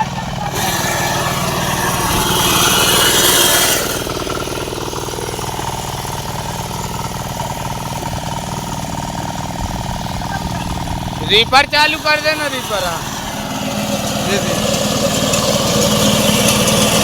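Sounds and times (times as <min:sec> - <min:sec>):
loud hissing rush: 0:00.0 - 0:15.2
small diesel engine running: 0:00.0 - 0:17.0.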